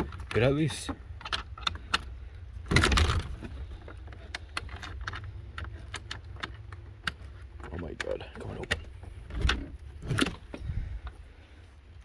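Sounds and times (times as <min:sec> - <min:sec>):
padlock clicking and rattling: 0:00.0 - 0:10.6
steady low rumble: 0:00.0 - 0:12.0.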